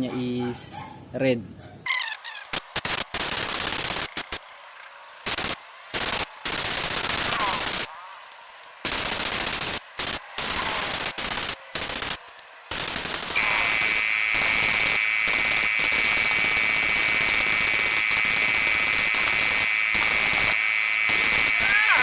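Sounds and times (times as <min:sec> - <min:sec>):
paint spray gun hissing: 0:02.6 - 0:04.4, 0:05.2 - 0:07.9, 0:08.8 - 0:22.0.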